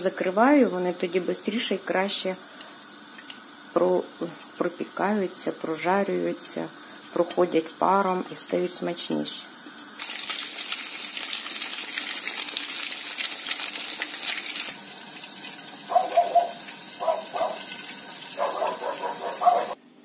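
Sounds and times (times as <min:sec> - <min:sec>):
battered vegetables sizzling in oil: 0:00.0 - 0:19.8.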